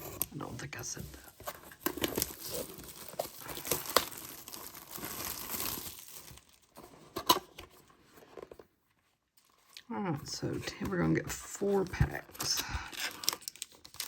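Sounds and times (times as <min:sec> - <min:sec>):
plastic shrink-wrap crinkling: 0:00.0 - 0:07.6, 0:08.3 - 0:14.0.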